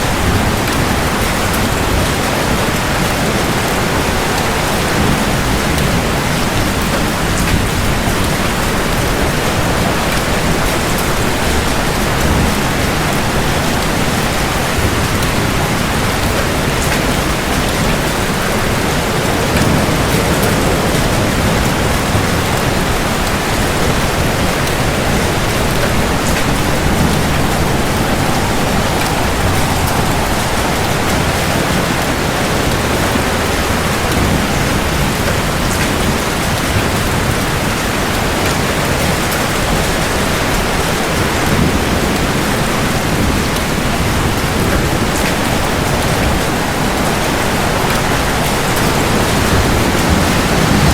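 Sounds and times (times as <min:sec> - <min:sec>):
heavy rain on hard surfaces: 0:00.0 - 0:50.9.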